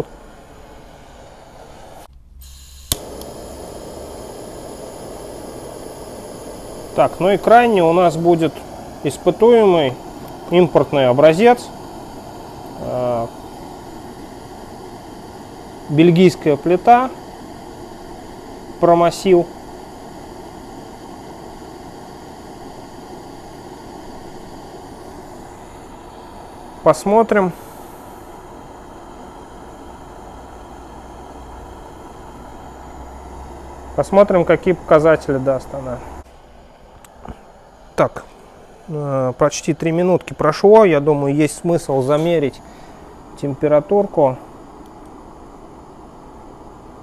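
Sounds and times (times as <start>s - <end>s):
burner flame rushing: 0.0s - 47.0s.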